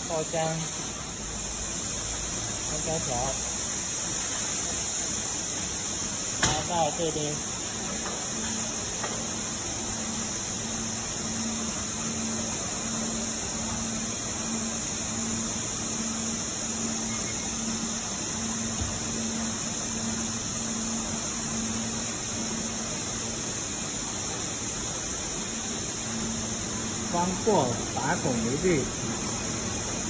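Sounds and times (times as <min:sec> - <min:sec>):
machinery hiss: 0:00.0 - 0:30.0.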